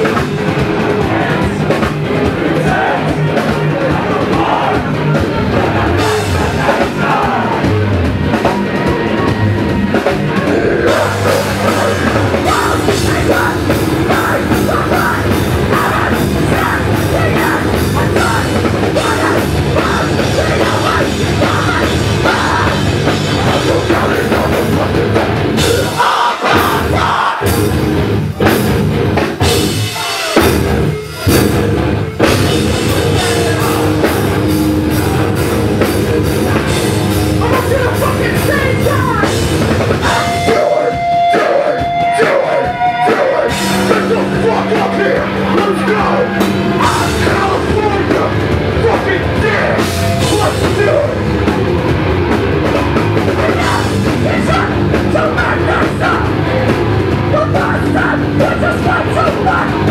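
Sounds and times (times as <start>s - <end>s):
distorted electric guitars: 0.0s - 59.9s
drum kit: 0.0s - 59.9s.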